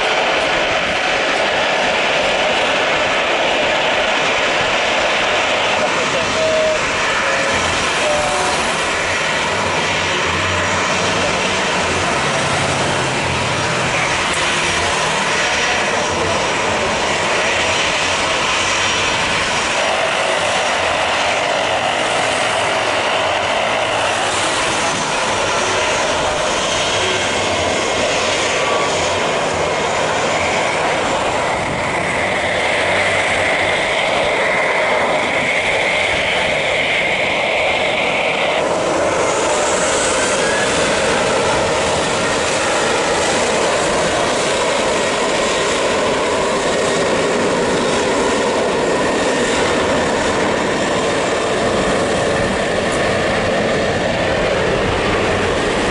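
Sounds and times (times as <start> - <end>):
jet engines rushing: 0.0 - 55.9
rising whine: 0.0 - 55.9.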